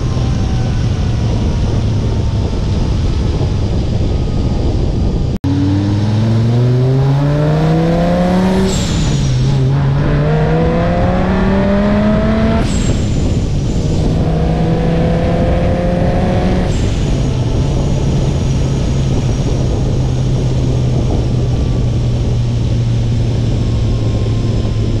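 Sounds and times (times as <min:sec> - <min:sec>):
sports car engine accelerating: 0:00.0 - 0:25.0
wind and road noise: 0:00.0 - 0:25.0.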